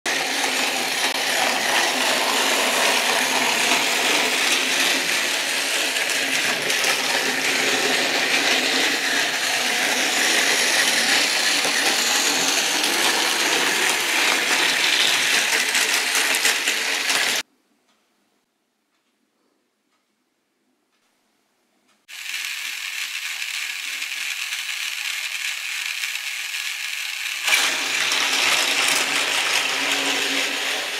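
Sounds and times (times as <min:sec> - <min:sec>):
toy train whirring rattle: 0:00.1 - 0:17.4, 0:22.1 - 0:30.9.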